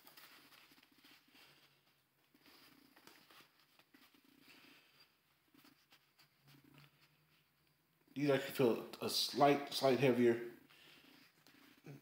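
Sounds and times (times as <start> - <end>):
headphones plastic rustling: 0.0 - 7.9, 9.4 - 12.0.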